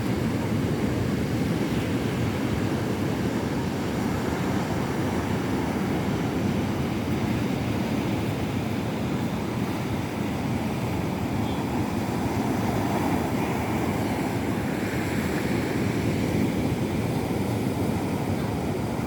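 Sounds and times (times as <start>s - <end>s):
waves washing on beach: 0.0s - 19.0s.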